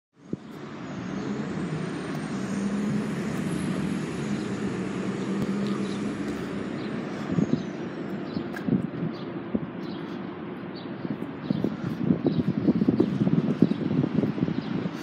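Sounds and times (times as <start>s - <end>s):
electric bus humming: 0.2s - 15.0s.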